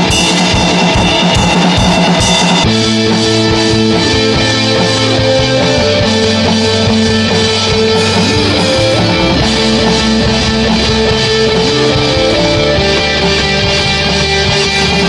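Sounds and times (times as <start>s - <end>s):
instrumental rock music: 0.0s - 15.0s.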